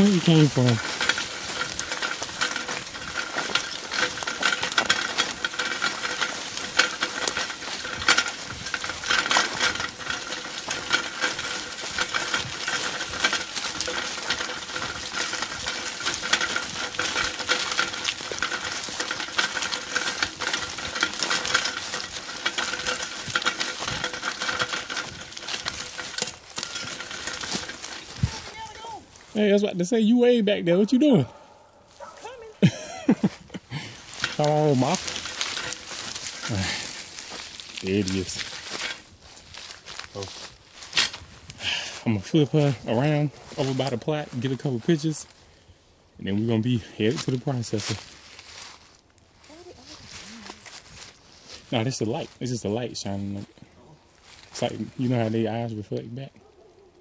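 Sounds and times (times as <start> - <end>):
metal cart rattling over rough ground: 0.0 - 45.4, 46.2 - 56.4.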